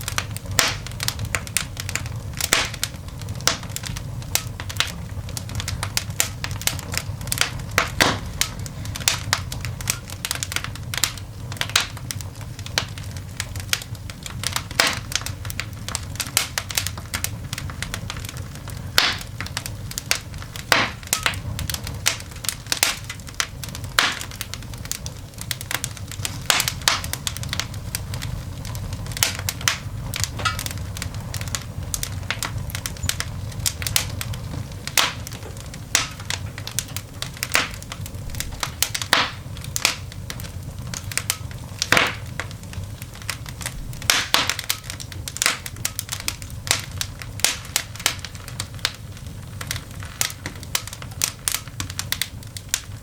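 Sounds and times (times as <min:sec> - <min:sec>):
coal fire crackling and popping: 0:00.0 - 0:53.0
low steady rumble: 0:00.0 - 0:53.0.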